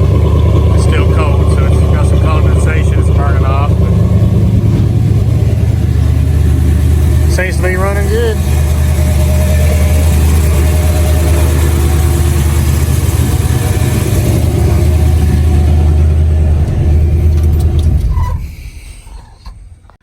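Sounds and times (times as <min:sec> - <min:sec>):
pickup engine running: 0:00.0 - 0:20.0.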